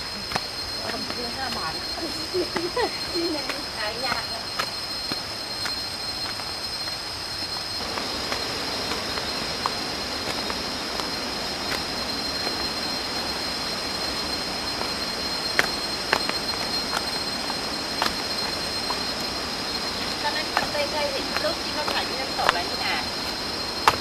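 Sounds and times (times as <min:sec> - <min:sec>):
cicada chorus drone: 0:00.0 - 0:24.0.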